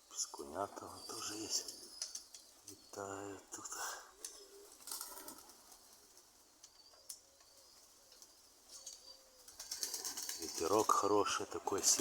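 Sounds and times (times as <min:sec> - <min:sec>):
pigeons cooing: 0:00.1 - 0:12.0.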